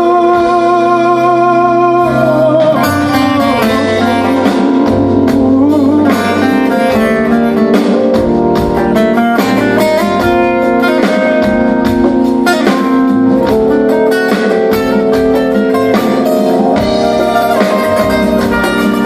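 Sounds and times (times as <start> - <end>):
live band music led by guitar: 0.0 - 19.0
drum hits: 2.7 - 19.0.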